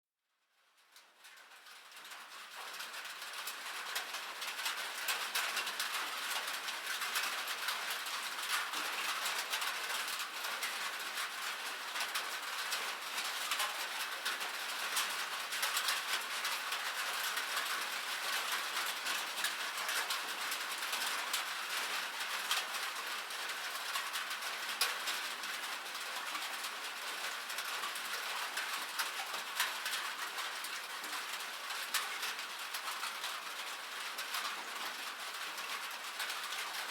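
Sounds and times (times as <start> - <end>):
rain on a roof: 0.4 - 36.9.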